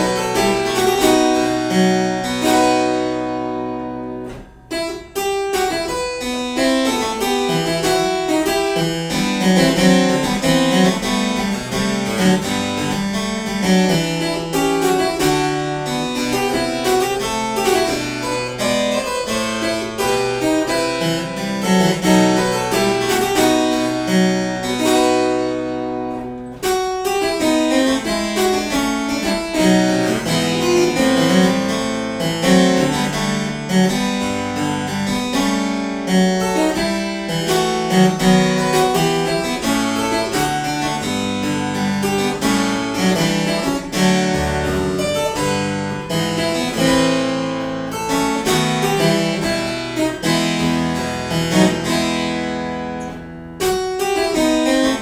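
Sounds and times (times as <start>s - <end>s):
harpsichord-like keyboard music: 0.0s - 55.0s.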